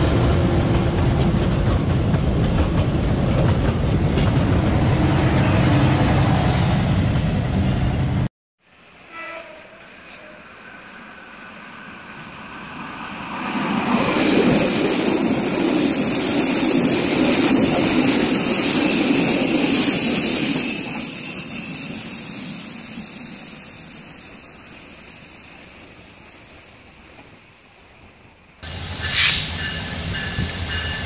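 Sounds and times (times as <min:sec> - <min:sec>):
train rushing past: 0:00.0 - 0:27.0, 0:28.6 - 0:31.0.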